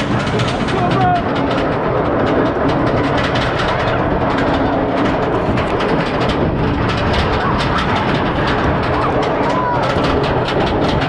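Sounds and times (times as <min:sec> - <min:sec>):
roller coaster mechanical clatter: 0:00.0 - 0:11.0.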